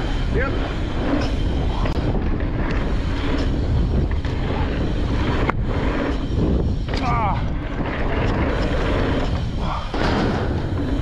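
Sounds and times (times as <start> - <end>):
bike knocks and rattles: 0.0 - 11.0
bike rolling on dirt trail: 0.0 - 11.0
wind buffeting microphone: 0.0 - 11.0.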